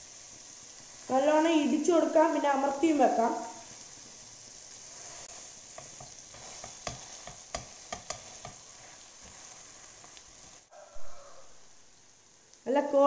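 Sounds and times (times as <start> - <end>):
chicken sizzling on griddle: 0.0 - 13.0.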